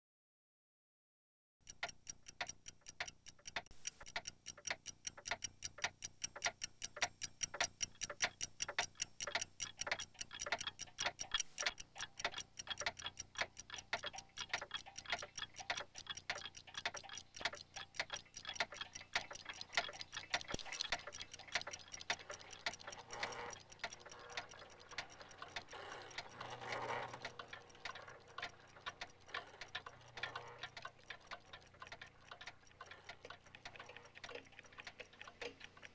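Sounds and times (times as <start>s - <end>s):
clock ticking: 1.6s - 35.9s.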